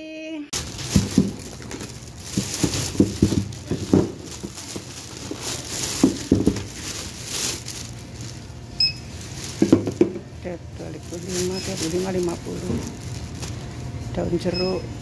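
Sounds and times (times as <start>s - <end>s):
plastic bags crinkling: 0.5s - 14.8s.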